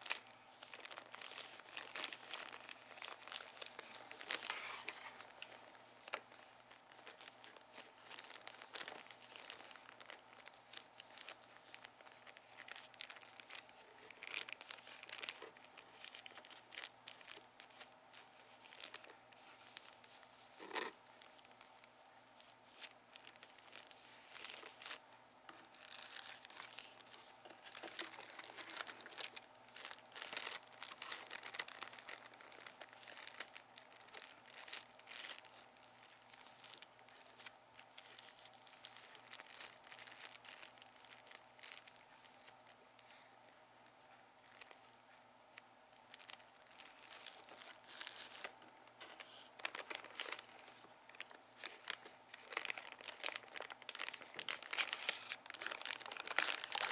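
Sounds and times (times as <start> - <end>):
packaging crinkling and rustling: 0.0 - 56.9.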